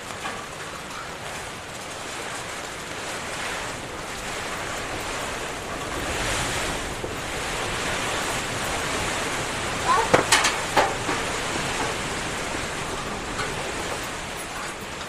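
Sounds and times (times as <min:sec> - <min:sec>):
gusting wind: 0:00.0 - 0:15.0
heavy rain: 0:00.0 - 0:15.0.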